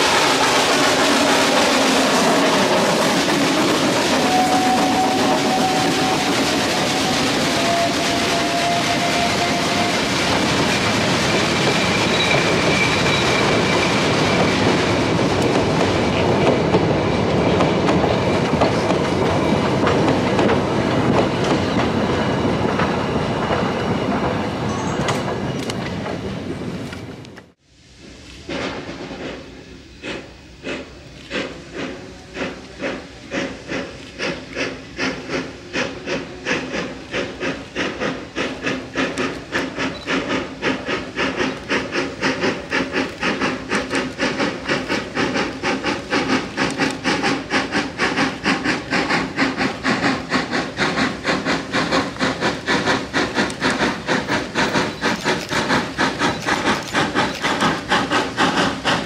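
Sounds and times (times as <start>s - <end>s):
steam locomotive chuffing: 0.0s - 26.9s, 27.8s - 59.0s.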